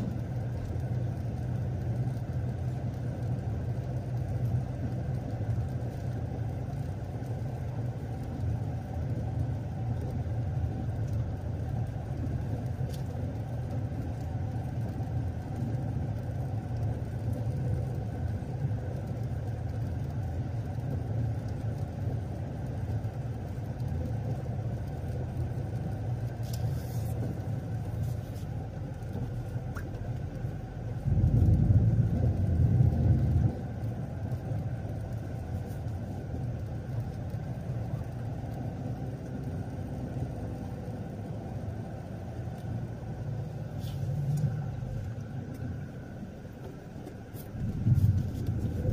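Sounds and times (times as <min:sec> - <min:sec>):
car driving rumble: 0:00.0 - 0:48.9.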